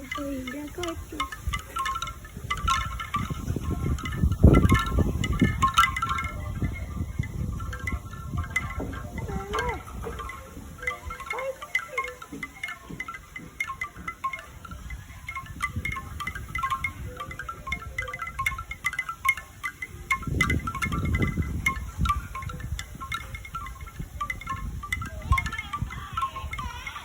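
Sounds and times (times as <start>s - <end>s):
bamboo wind chime knocking: 0.0s - 27.0s.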